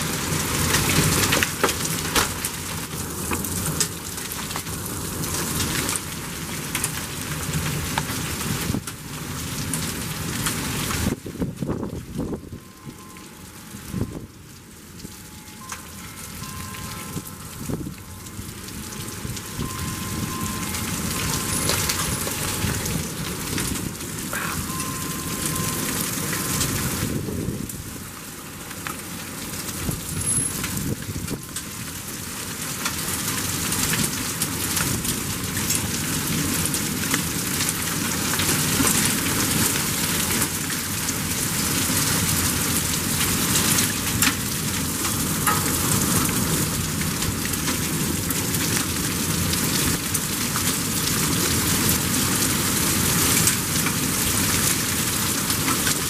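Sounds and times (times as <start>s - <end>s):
heavy rain on pavement and vehicles: 0.0s - 56.0s.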